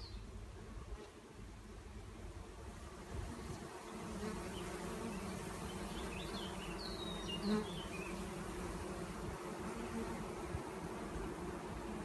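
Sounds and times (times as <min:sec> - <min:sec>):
bee swarm buzzing: 0:00.7 - 0:12.0.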